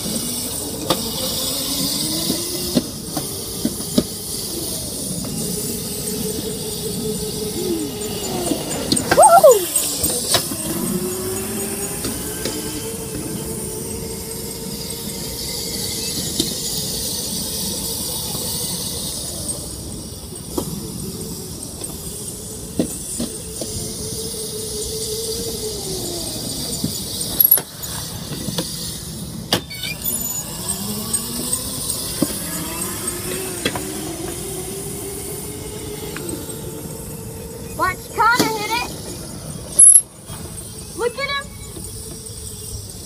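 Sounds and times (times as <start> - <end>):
electric dirt bike motor whining: 0.0 - 43.0.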